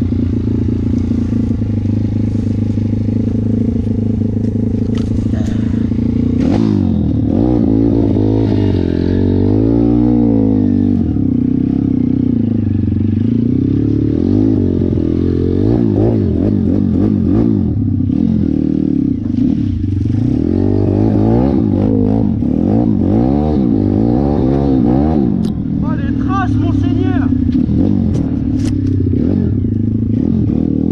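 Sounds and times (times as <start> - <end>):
motorbike engine revving: 0.0 - 30.9.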